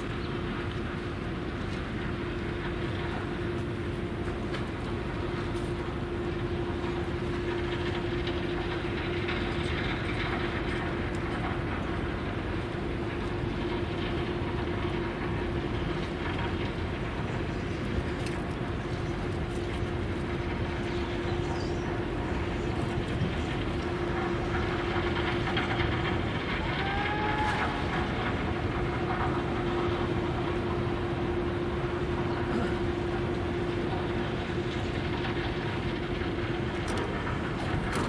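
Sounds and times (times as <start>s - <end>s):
industrial machinery hum: 0.0s - 38.0s.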